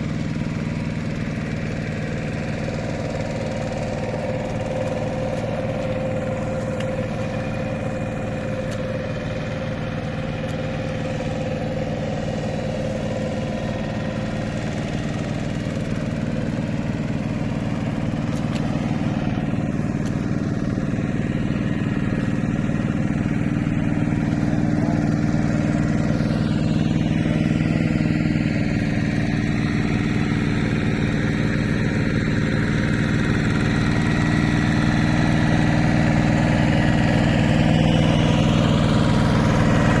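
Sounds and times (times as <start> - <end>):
hand tractor engine running: 0.0 - 40.0.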